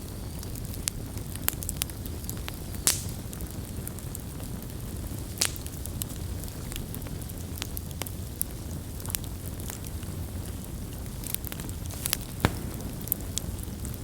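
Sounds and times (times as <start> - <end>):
campfire burning: 0.0 - 14.0
fire crackling and popping: 0.0 - 14.0.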